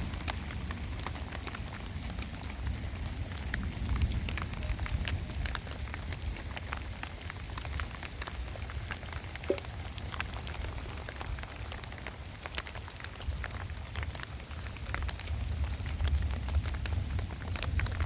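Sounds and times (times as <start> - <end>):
heavy rain falling: 0.0 - 18.0
raindrops ticking on a surface: 0.0 - 18.0.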